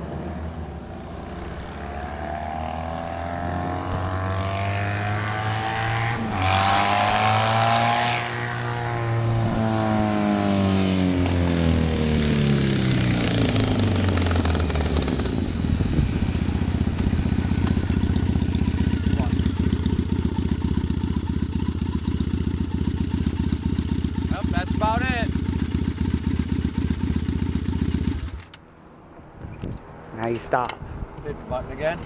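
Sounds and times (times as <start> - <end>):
motorcycle engine revving and idling: 1.4 - 28.6.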